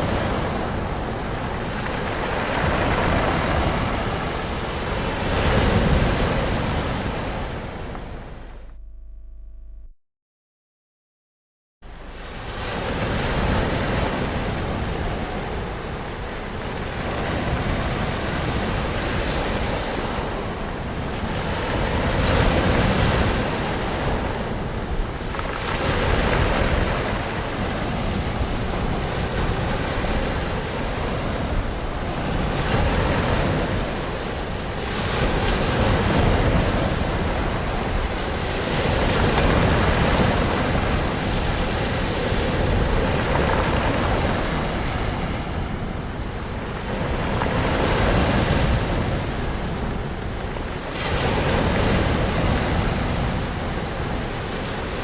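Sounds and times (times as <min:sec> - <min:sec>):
ocean waves breaking on shore: 0:00.0 - 0:08.6, 0:11.9 - 0:55.0
deep rumble of surf: 0:00.0 - 0:09.9, 0:11.9 - 0:55.0.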